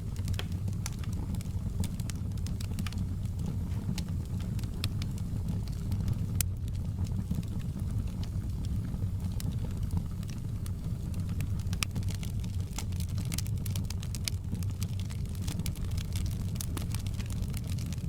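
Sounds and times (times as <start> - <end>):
fireplace fire crackling: 0.0 - 18.0
low rumble of burning: 0.0 - 18.0.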